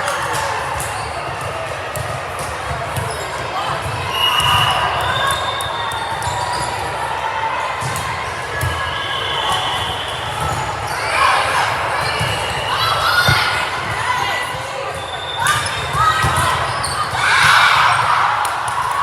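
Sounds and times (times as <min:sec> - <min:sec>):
players shouting: 0:00.0 - 0:19.0
sneakers squeaking on floor: 0:00.8 - 0:07.0, 0:07.8 - 0:11.3, 0:12.0 - 0:17.7.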